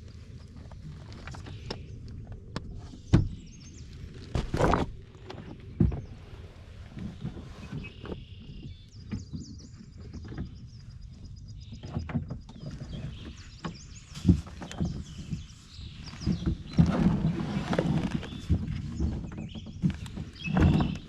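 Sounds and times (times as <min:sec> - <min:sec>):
kayak bumping and scraping: 0:00.1 - 0:21.0.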